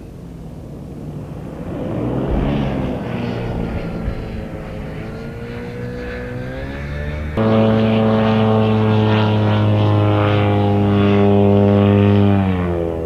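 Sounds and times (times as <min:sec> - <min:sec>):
ultralight aircraft engine droning: 0:00.0 - 0:13.0.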